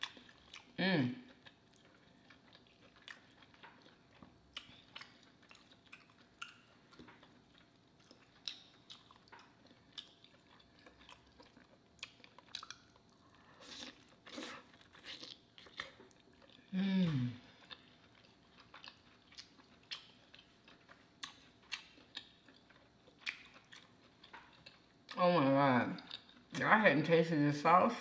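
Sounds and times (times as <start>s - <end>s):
close chewing and mouth clicks: 0.0s - 25.2s, 26.0s - 26.6s.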